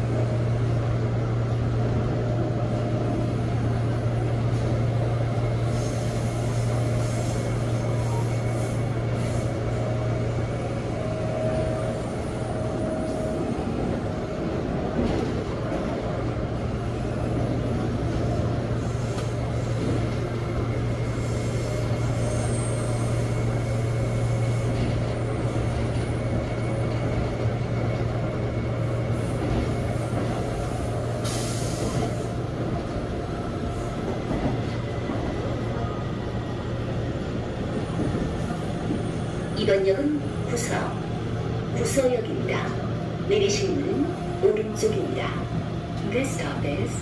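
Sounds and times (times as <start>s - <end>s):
train running noise: 0.0s - 47.0s.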